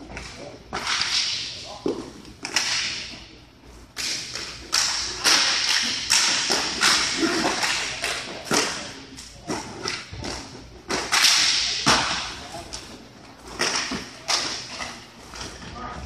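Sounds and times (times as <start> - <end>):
hockey sticks slapping and clacking: 0.0 - 3.3, 3.9 - 16.0.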